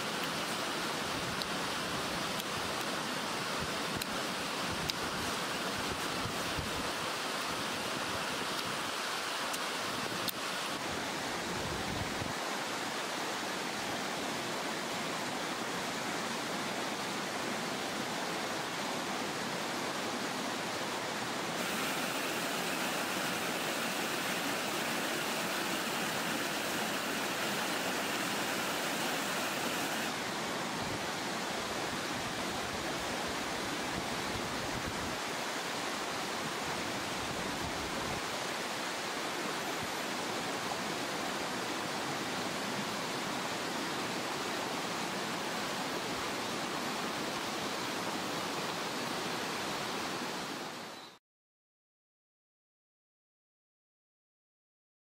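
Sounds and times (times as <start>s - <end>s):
stream rushing over rocks: 0.0s - 51.0s.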